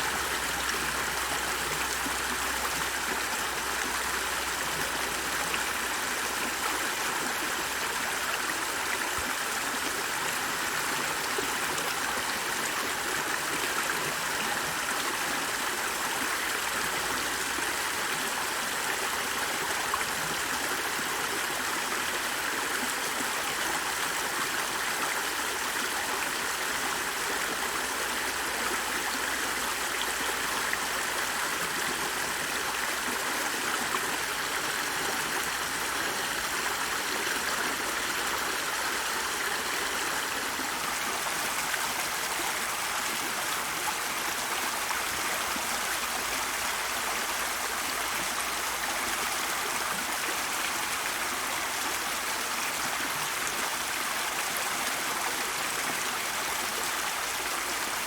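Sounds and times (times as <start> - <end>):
stream of flowing water: 0.0 - 58.0.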